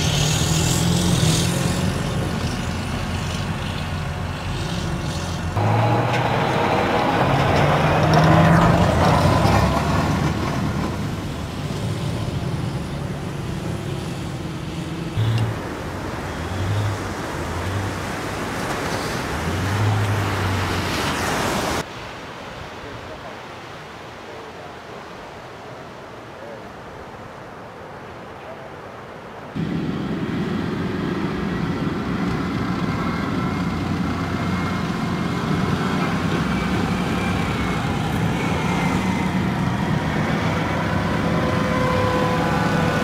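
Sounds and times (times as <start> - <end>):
tracked vehicle engine and tracks: 0.0 - 21.9, 28.7 - 43.0.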